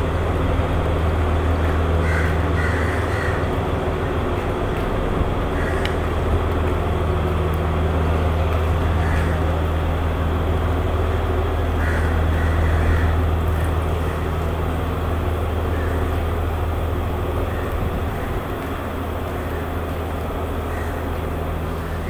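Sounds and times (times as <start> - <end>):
diesel train engine idling: 0.0 - 22.0.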